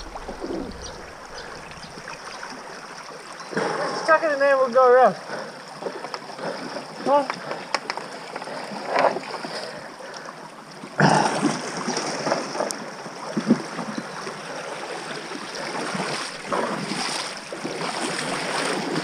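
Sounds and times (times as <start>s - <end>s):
rush of water: 0.0s - 19.0s
water splashing around boat: 0.0s - 19.0s.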